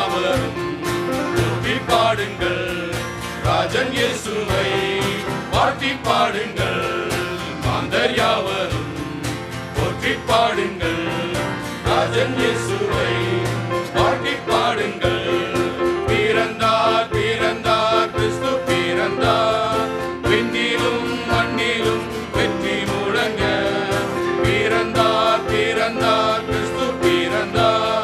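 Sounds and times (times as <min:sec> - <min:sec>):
accordion: 0:00.0 - 0:28.0.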